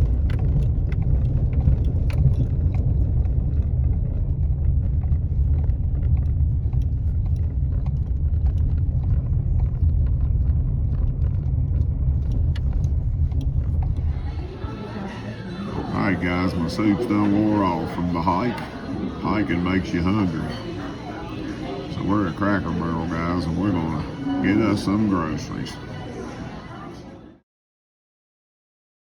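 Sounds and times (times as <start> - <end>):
engine and road rumble: 0.0 - 24.2.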